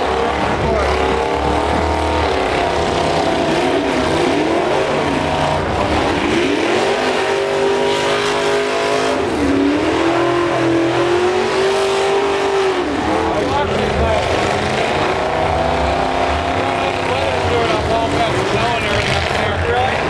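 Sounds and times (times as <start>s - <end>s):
truck engines revving hard: 0.0s - 20.0s.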